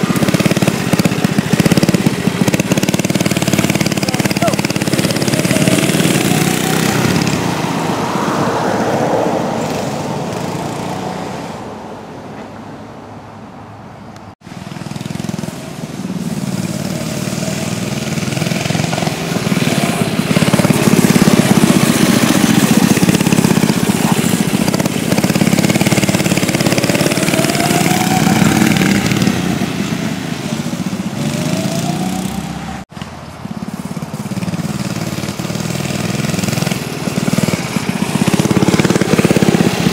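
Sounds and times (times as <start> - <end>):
small bike engine revving: 0.0 - 11.6, 14.5 - 39.9.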